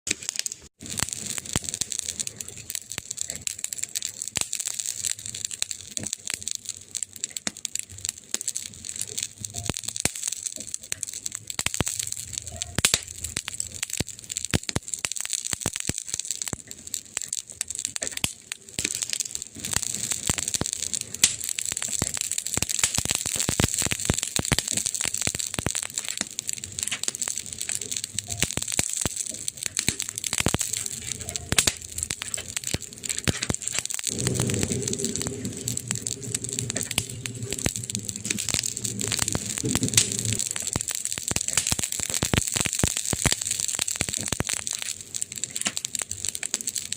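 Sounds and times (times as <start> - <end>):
burning wood crackling: 0.1 - 46.9.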